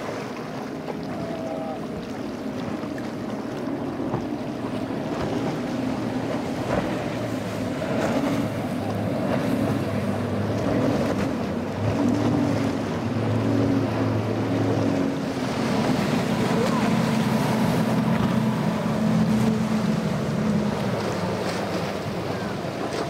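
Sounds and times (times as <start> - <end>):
boat outboard engines droning: 0.0 - 23.0.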